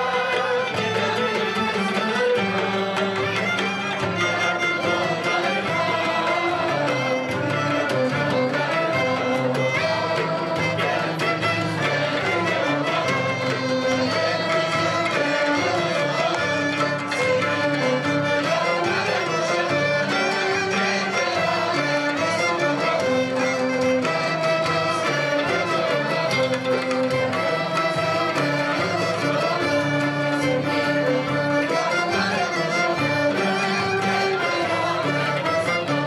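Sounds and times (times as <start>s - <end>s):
folk ensemble playing: 0.0s - 36.0s
frame drum beat: 0.0s - 36.0s
violins and clarinet melody: 0.0s - 36.0s.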